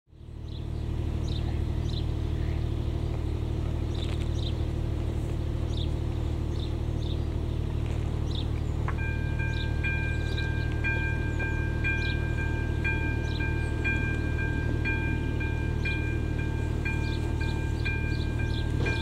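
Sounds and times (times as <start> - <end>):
bird chirps: 0.1 - 4.8, 5.6 - 19.0
engine idling hum: 0.1 - 19.0.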